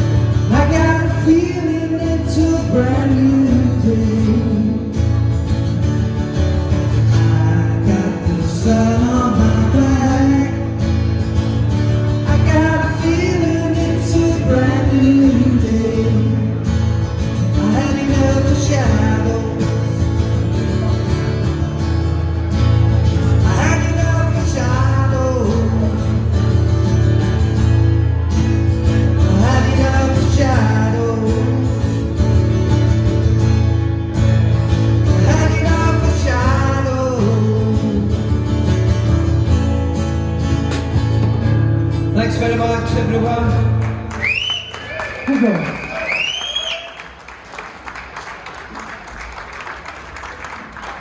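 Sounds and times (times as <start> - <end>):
acoustic guitar: 0.0 - 47.2.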